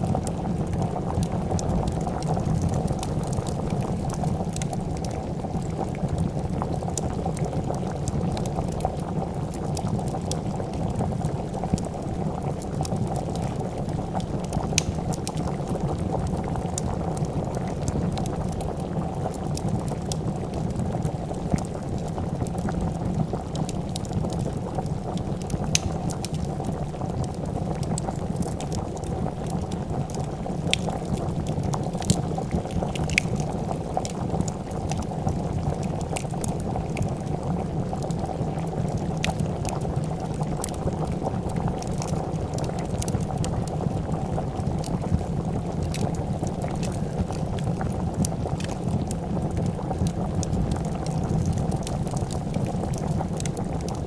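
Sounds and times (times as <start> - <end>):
pot of soup boiling: 0.0 - 54.0
wood fire crackling: 0.0 - 54.0.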